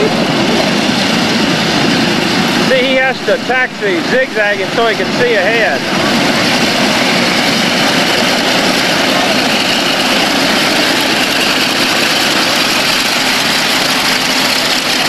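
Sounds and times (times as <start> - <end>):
radial aircraft engine running: 0.0 - 15.0.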